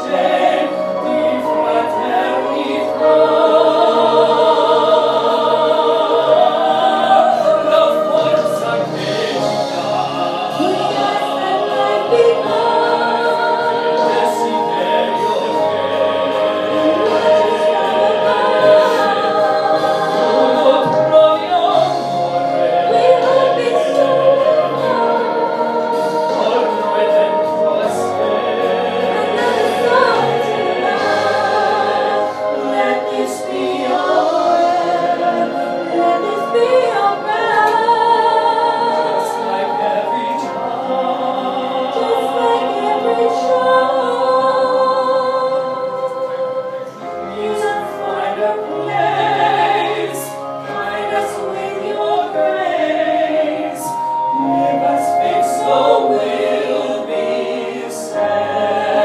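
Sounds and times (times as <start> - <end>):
instrumental accompaniment: 0.0 - 59.0
man and woman singing duet: 0.0 - 59.0.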